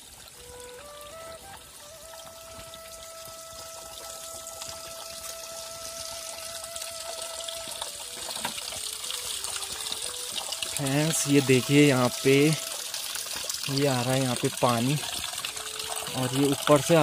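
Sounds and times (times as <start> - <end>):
water trickling over stones: 0.0 - 17.0.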